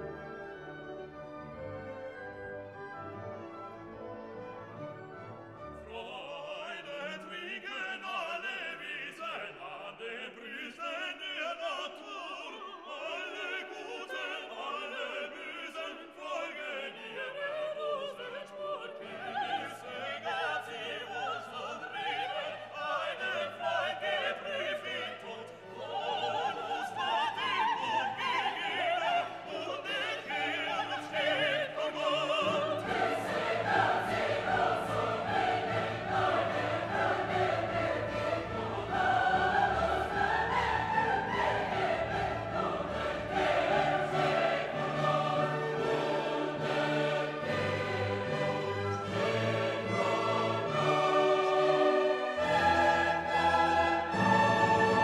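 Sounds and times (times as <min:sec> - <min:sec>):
operatic singing with orchestra: 0:00.0 - 0:55.0.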